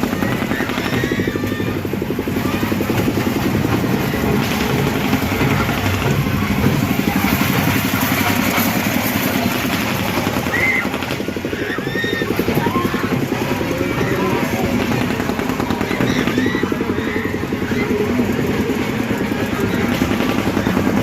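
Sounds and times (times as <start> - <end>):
motor throbbing: 0.0 - 21.0.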